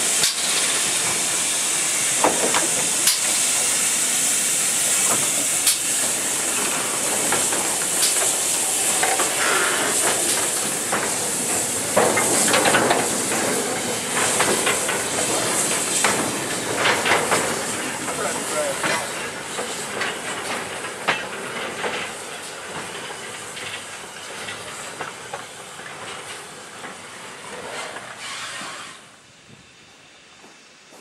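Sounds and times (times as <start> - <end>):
steam hissing: 0.0 - 31.0.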